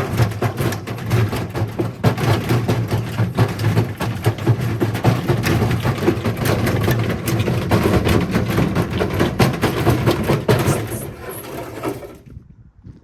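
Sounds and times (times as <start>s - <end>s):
bricks banging inside drum: 0.0s - 12.2s
washing machine drum rumbling: 0.0s - 12.2s.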